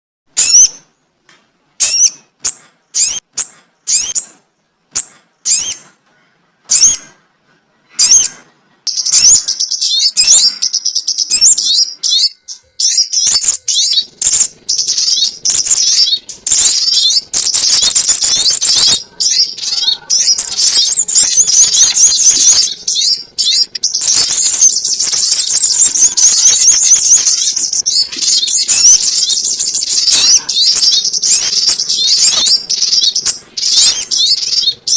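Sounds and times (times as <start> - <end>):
high sharp bird chirps: 0.3 - 0.9, 1.8 - 6.0, 6.7 - 7.2, 7.9 - 34.9.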